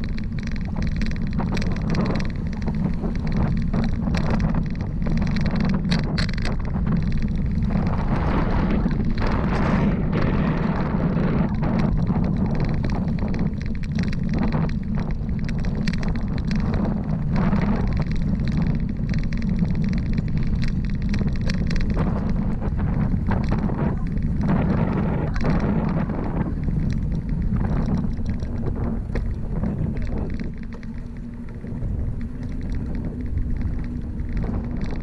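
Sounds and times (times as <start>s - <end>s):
light clicks and rattles: 0.0s - 35.0s
wind buffeting microphone: 0.0s - 35.0s.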